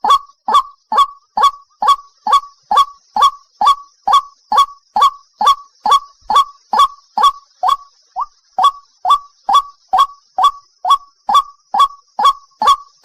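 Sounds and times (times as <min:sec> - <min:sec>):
bird calling sharp notes: 0:00.0 - 0:13.0.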